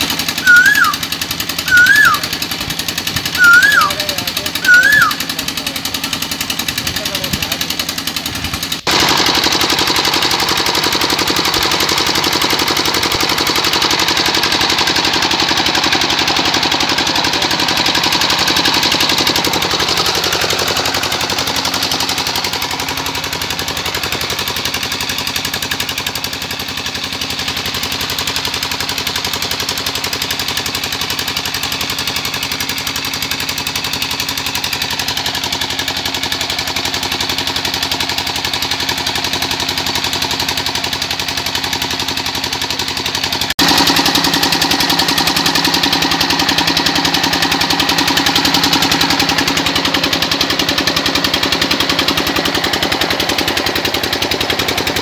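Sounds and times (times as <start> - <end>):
diesel engine pounding: 0.0 - 55.0
drive belt and line shaft turning: 0.0 - 55.0.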